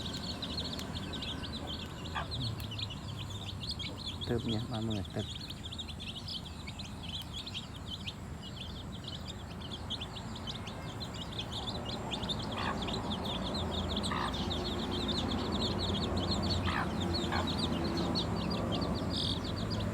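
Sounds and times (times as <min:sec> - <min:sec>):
chicks peeping: 0:00.0 - 0:19.9
lower bird calls: 0:00.0 - 0:19.9.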